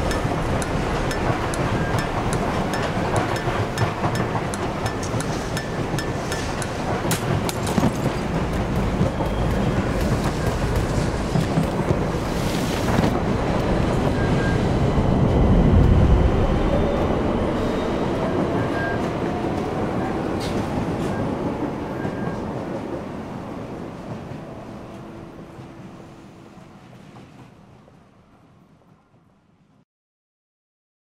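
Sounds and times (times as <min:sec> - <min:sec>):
subway train rumbling: 0:00.0 - 0:29.7.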